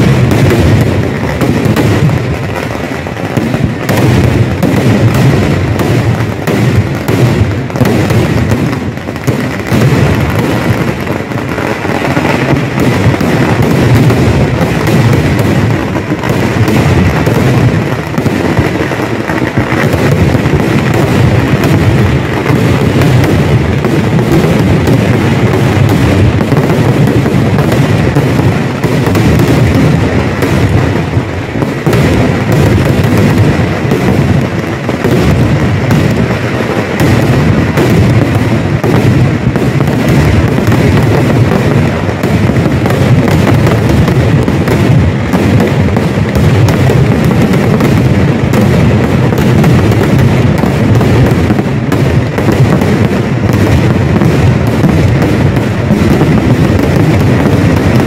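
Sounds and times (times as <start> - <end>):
fireworks bangs and crackle: 0.0 - 58.0.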